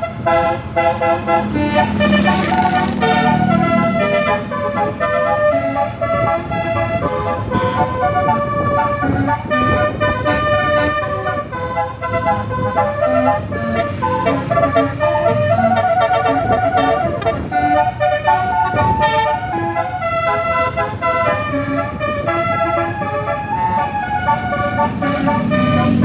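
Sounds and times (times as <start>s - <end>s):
bus horn playing melody: 0.0s - 26.0s
low engine rumble: 0.0s - 26.0s.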